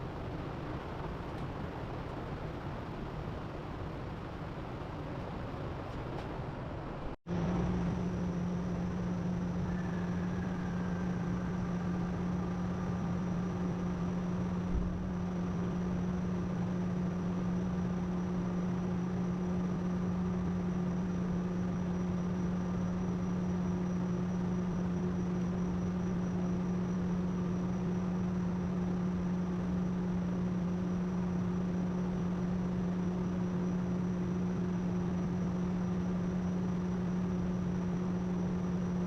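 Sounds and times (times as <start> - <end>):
machine hum: 0.0 - 39.0.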